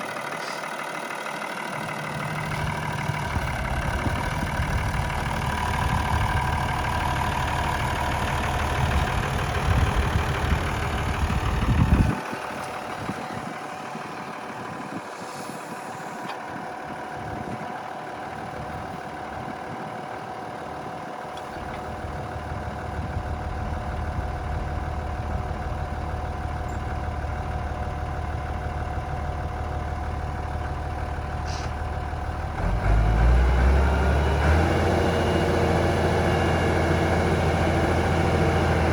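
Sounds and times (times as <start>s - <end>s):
tractor diesel engine rumbling: 0.0s - 38.9s.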